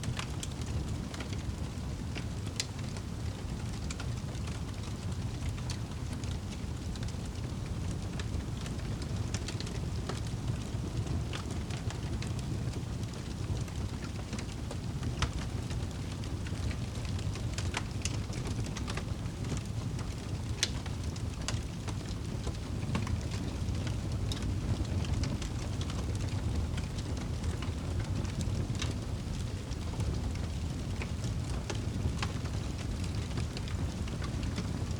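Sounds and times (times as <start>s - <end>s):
fire crackling in fireplace: 0.0s - 34.9s.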